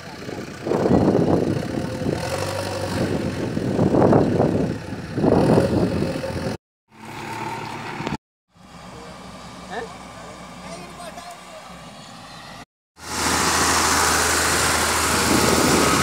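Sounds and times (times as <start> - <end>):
diesel engine surging under load: 0.0 - 16.0.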